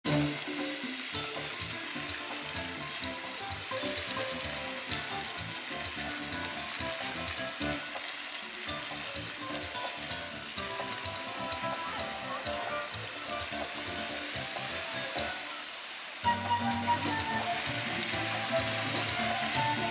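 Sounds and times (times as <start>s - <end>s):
faint music: 0.1s - 19.9s
fountain water splashing: 0.1s - 19.9s.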